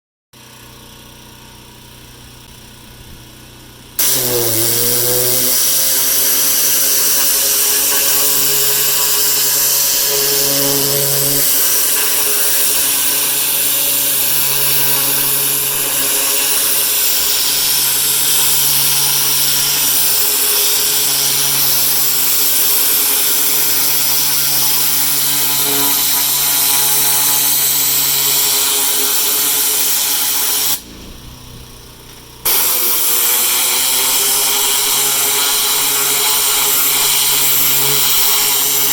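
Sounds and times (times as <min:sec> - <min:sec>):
machine hum: 0:00.4 - 0:38.9
pressure washer water jet hiss: 0:04.0 - 0:31.1, 0:32.4 - 0:38.9.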